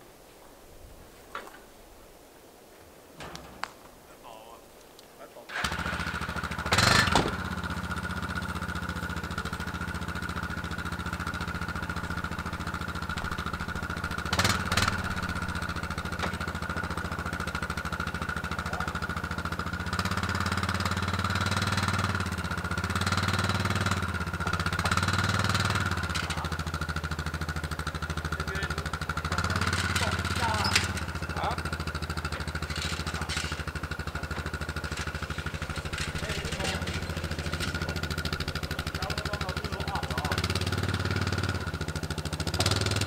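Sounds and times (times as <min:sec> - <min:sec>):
vehicle engine running: 0:05.5 - 0:43.0.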